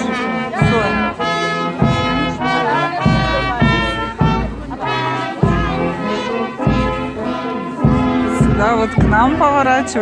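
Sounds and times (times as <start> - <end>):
brass band playing: 0.0 - 10.0.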